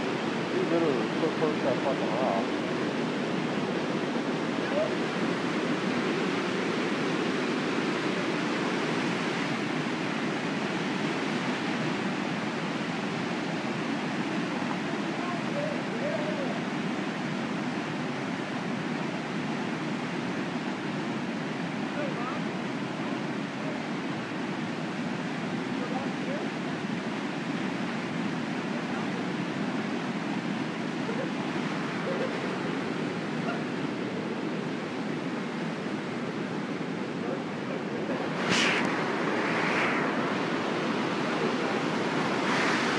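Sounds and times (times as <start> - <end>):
small waterfall rushing: 0.0 - 42.9.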